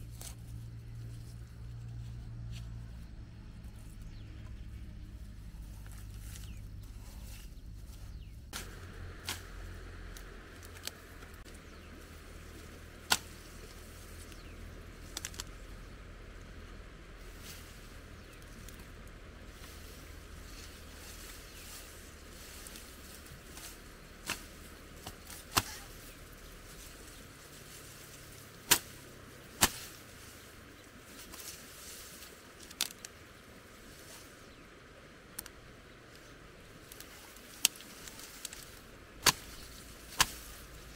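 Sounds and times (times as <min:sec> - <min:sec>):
grass stalks snapping: 0:00.0 - 0:02.8, 0:03.7 - 0:16.5, 0:17.2 - 0:34.6, 0:35.2 - 0:40.9
low steady outdoor hiss: 0:00.0 - 0:40.9.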